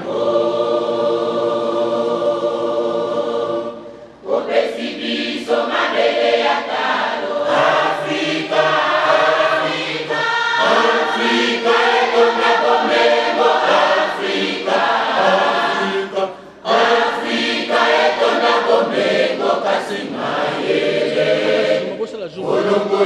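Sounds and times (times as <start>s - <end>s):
mixed choir singing: 0.0s - 23.0s.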